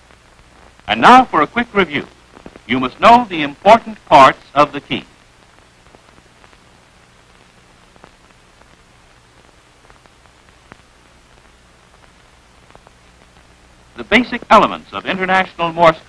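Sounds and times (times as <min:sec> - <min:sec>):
faint crackles: 0:00.0 - 0:16.0
film soundtrack hiss and hum: 0:00.0 - 0:16.0.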